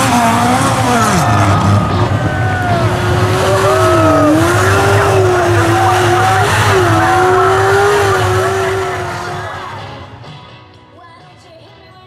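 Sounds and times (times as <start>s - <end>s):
tyres sliding on dirt: 0.0s - 9.8s
race car engine revving: 0.0s - 10.2s.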